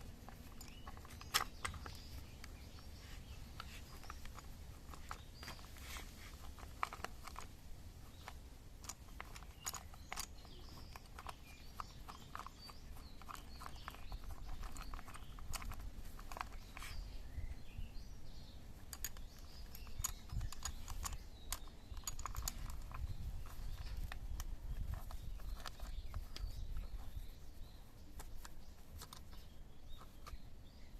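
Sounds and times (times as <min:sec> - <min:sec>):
hand tools clicking and tapping: 0:00.0 - 0:17.4, 0:18.3 - 0:30.9.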